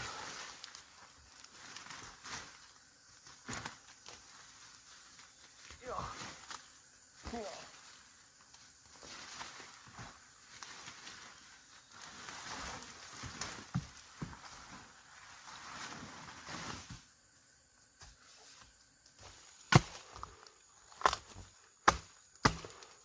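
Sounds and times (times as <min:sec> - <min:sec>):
rustling in vegetation: 0:00.0 - 0:23.0.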